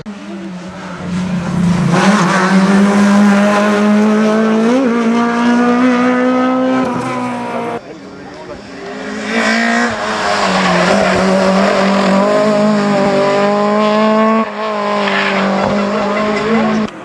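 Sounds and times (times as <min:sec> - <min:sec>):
rally car engine at high revs: 0:00.0 - 0:17.0.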